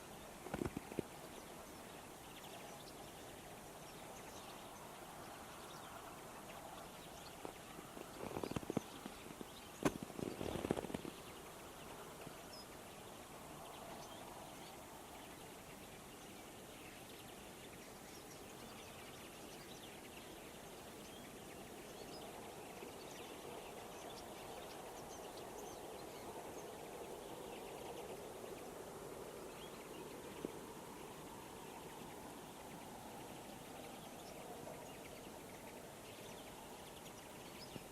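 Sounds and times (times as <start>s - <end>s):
finches twittering and singing: 0.0s - 37.9s.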